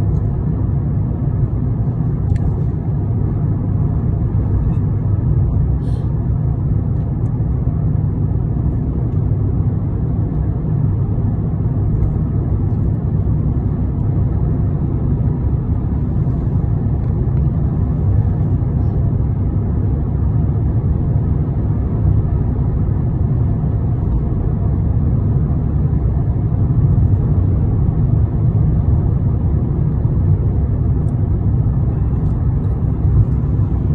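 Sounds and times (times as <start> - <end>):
road vehicle rumble: 0.0 - 33.9.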